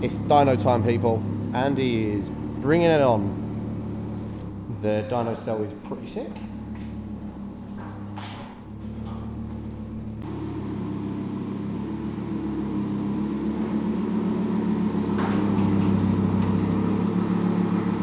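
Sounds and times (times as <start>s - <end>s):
car engine running at low revs: 0.0s - 18.0s.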